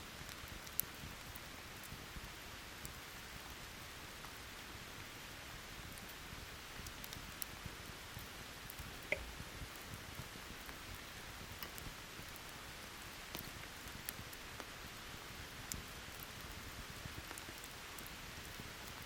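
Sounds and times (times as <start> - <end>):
campfire crackling: 0.1 - 19.0
rain hiss: 0.1 - 19.0.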